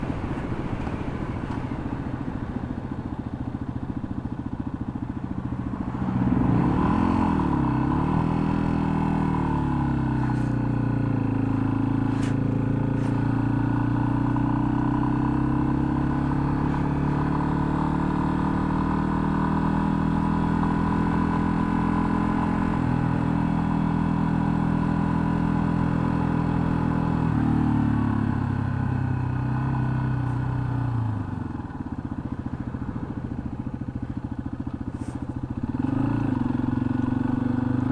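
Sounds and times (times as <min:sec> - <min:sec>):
motorcycle engine idling and pulling away: 0:00.0 - 0:37.9.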